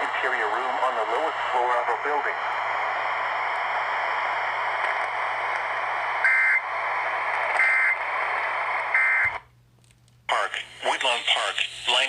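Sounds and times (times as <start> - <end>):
radio hiss: 0.0 - 9.3, 10.3 - 12.0.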